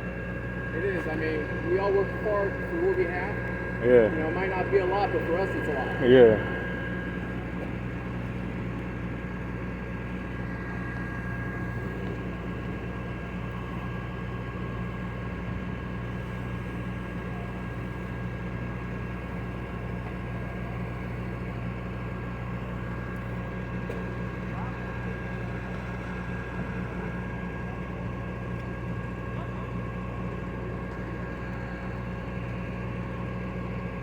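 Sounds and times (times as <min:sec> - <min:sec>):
engine idling with whine: 0:00.0 - 0:34.0.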